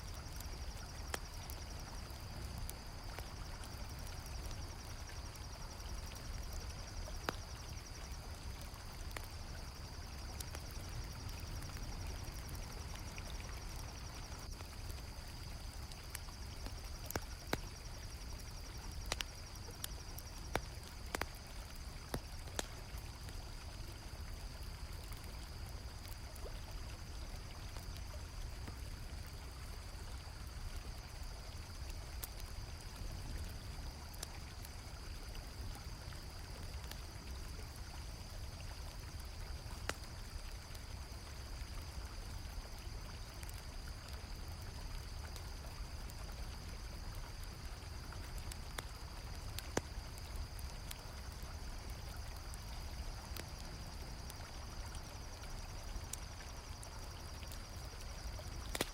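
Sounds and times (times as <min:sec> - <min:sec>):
campfire crackling: 0:00.0 - 0:58.9
cricket chorus: 0:00.0 - 0:58.9.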